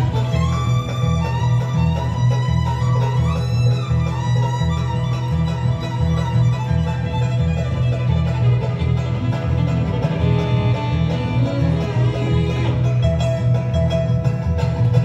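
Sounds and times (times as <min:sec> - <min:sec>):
bluegrass band playing: 0:00.0 - 0:15.0
fiddle: 0:00.0 - 0:15.0.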